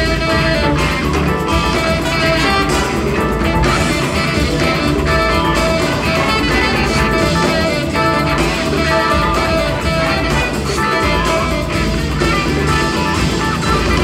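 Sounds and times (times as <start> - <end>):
big band playing funk: 0.0 - 14.0
electric guitar: 0.0 - 14.0.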